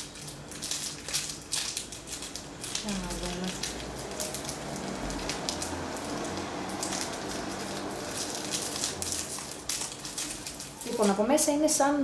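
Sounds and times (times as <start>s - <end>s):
candy wrapper crinkling: 0.0s - 11.8s.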